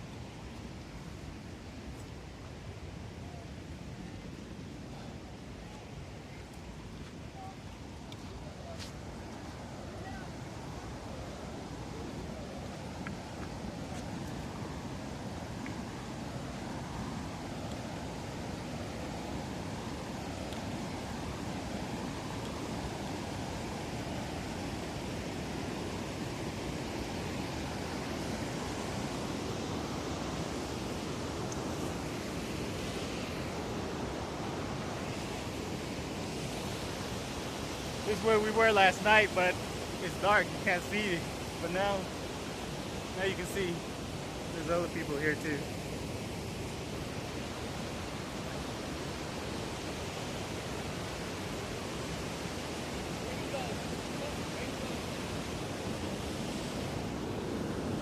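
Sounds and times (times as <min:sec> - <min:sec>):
waterfall roaring: 0:09.2 - 0:58.0.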